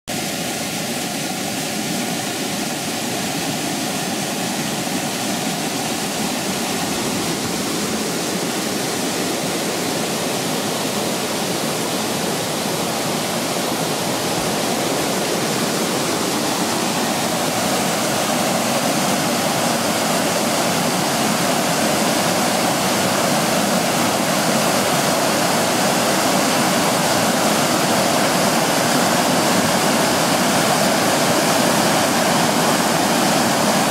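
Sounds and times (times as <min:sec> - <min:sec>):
water rushing over rocks: 0:00.1 - 0:33.9.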